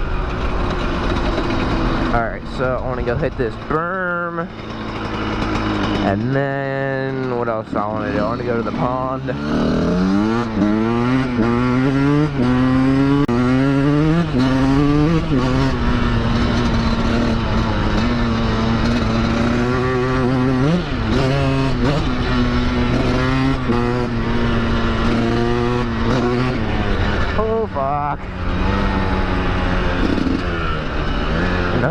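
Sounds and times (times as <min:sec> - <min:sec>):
dirt bike engine accelerating: 0:00.0 - 0:31.9.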